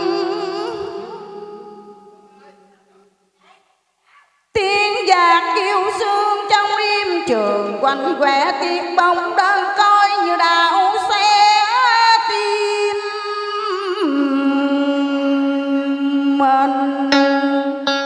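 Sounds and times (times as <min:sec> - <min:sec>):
woman singing with vibrato: 0:00.0 - 0:02.7, 0:04.6 - 0:18.0.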